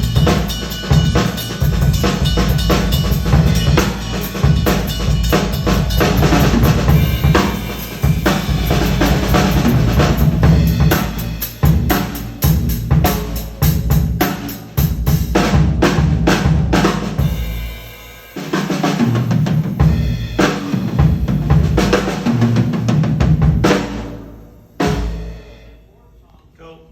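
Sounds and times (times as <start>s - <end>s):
bass drum and snare strokes: 0.0s - 25.3s
drum kit playing: 0.0s - 25.9s.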